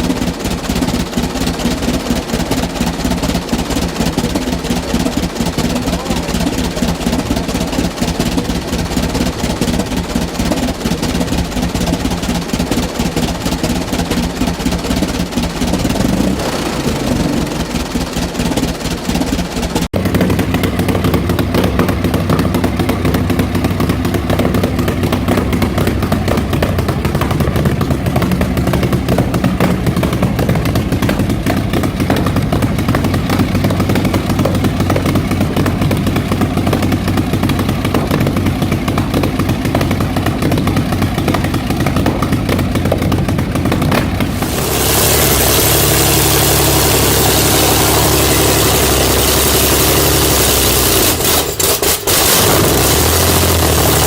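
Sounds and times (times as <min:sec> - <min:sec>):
combustion engine running: 0:00.0 - 0:54.0
heavier engine running: 0:00.0 - 0:54.0.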